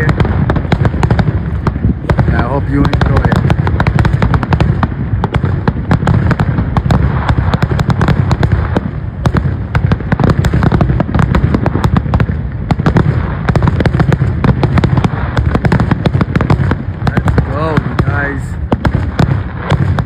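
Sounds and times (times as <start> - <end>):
firework shells bursting: 0.0 - 20.0.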